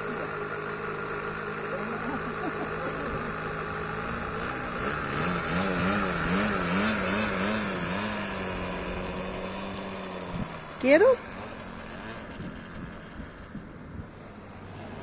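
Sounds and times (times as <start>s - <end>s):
model plane engine running: 0.0s - 15.0s.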